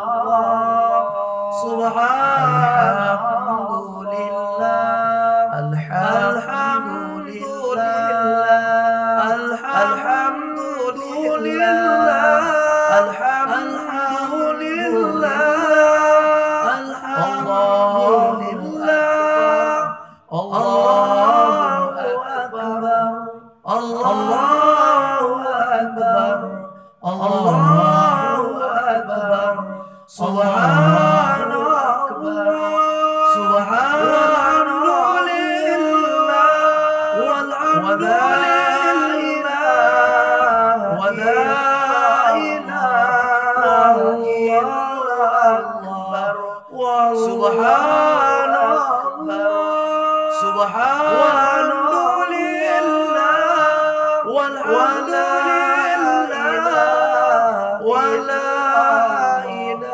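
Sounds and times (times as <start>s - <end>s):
men singing a cappella chant: 0.0s - 59.9s.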